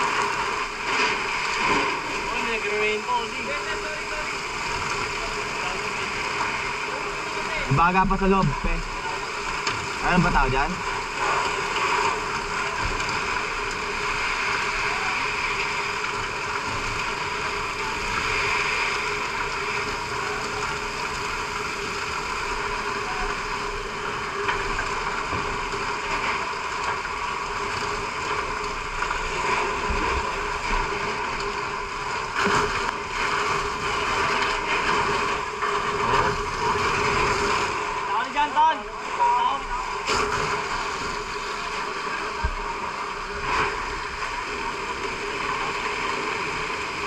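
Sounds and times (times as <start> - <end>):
fire hose spraying water: 0.0 - 47.0.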